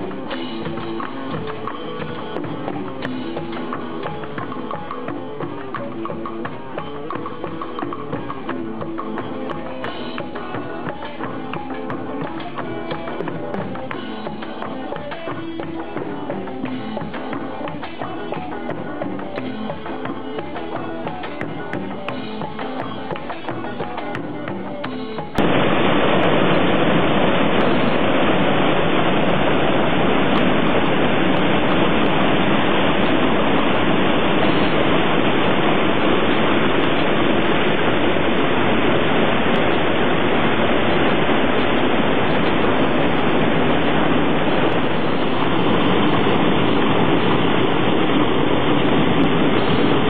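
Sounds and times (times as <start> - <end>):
river water rushing over rocks: 0.0 - 50.0.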